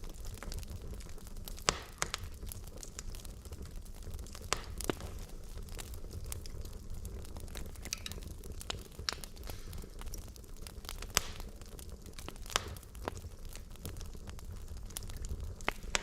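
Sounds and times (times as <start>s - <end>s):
fire rumbling: 0.0s - 16.0s
logs crackling and popping: 0.0s - 16.0s.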